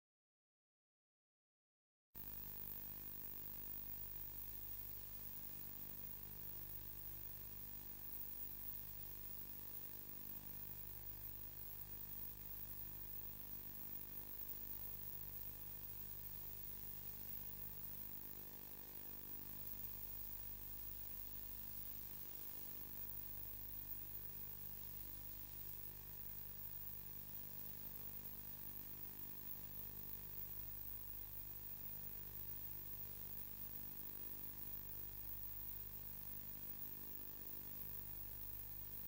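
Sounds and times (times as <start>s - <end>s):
low electrical hum with hiss: 2.2s - 39.0s.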